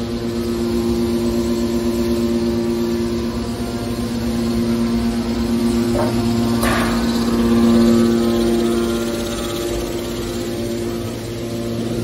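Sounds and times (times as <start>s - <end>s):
hydraulic machinery humming: 0.0s - 12.0s.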